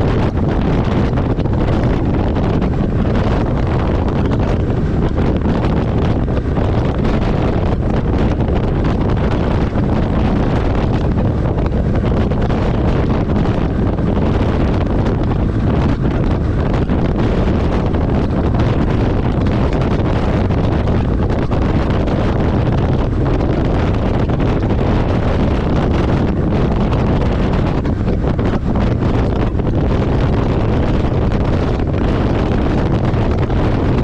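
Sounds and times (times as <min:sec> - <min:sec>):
truck road noise: 0:00.0 - 0:34.0
wind buffeting microphone: 0:00.0 - 0:34.0.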